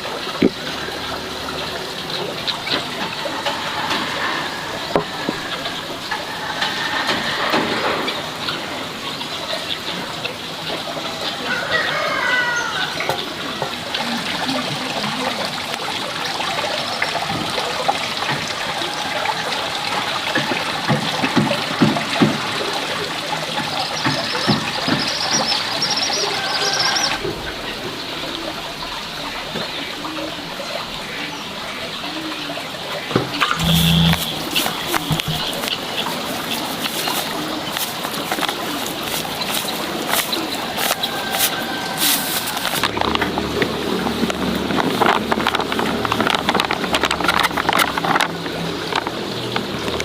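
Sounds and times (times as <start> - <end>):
water trickling and splashing: 0.0 - 50.0.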